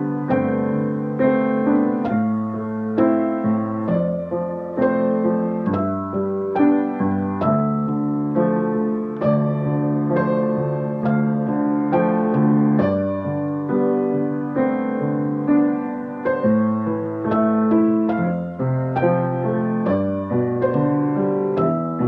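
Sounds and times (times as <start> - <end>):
piano improvisation: 0.0 - 22.0.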